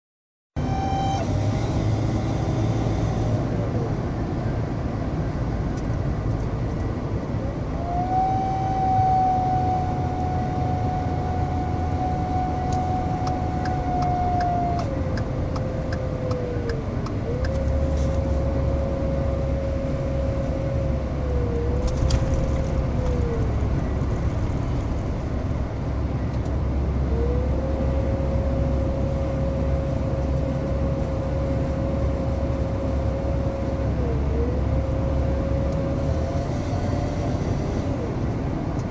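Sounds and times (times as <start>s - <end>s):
turbocharger whistling whine: 0.6s - 4.0s, 7.5s - 38.3s
low engine drone: 0.6s - 38.9s.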